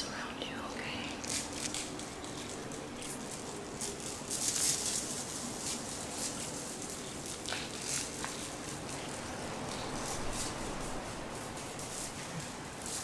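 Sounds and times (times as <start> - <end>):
steady ambience: 0.0 - 13.0.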